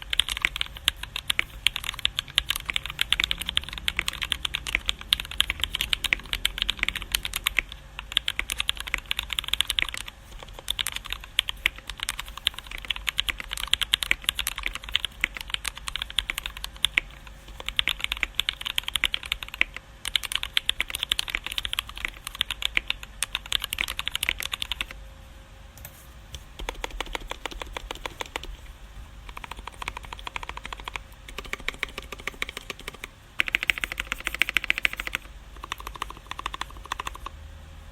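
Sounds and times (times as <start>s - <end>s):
mechanical keyboard typing: 0.0s - 25.0s, 26.6s - 37.4s.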